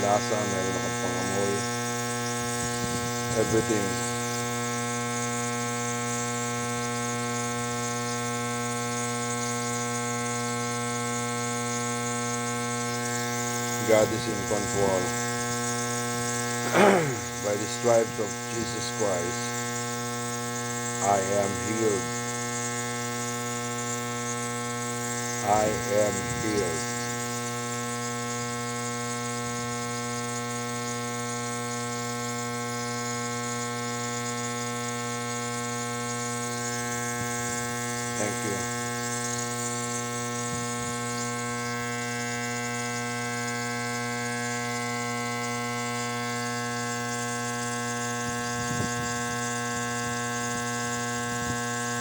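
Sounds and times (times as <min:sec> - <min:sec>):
nebulizer buzzing hum: 0:00.0 - 0:52.0.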